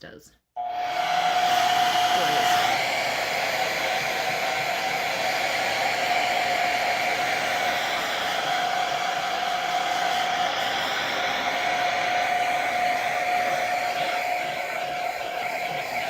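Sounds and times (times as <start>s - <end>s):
hair dryer rushing air and whine: 0.6s - 16.0s.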